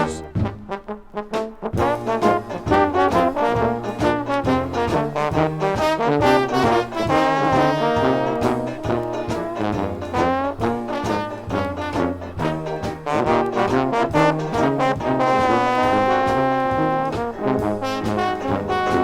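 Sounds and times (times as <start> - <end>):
dixieland jazz band playing: 0.0 - 19.0.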